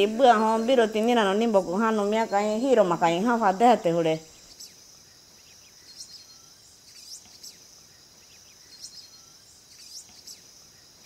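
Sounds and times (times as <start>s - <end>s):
bird chirps: 0.0s - 11.0s
high-pitched insect drone: 0.0s - 11.0s.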